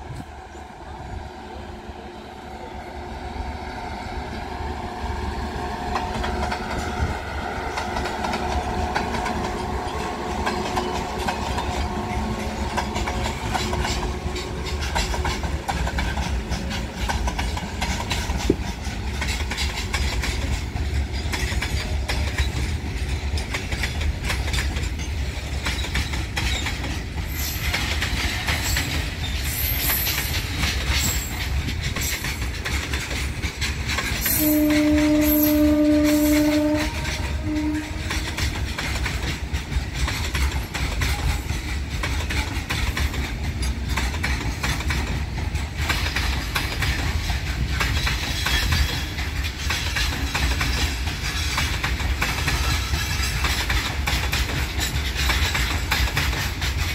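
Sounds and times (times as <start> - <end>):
locomotive hum: 0.0 - 56.9
train wheels clattering over rail joints: 5.4 - 56.9.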